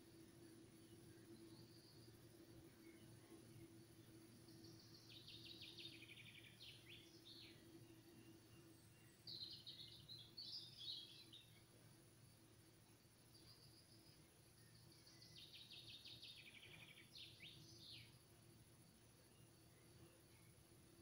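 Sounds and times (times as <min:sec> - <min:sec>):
faint low hum: 0:00.0 - 0:21.0
faint bird twittering: 0:00.1 - 0:11.9, 0:12.8 - 0:21.0.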